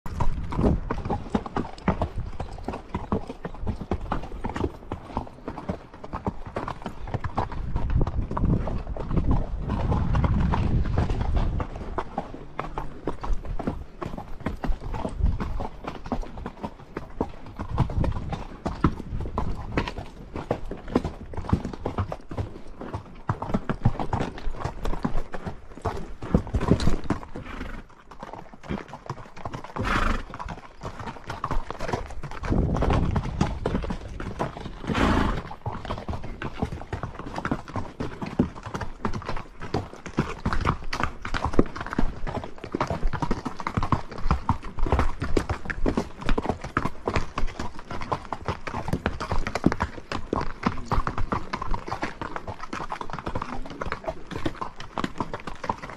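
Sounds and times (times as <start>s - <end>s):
horse hooves clip-clopping: 0.1s - 55.9s.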